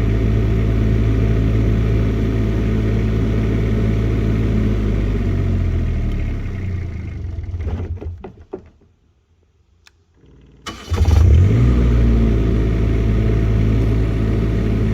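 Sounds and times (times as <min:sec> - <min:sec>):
diesel generator running: 0:00.0 - 0:07.7, 0:10.4 - 0:14.9.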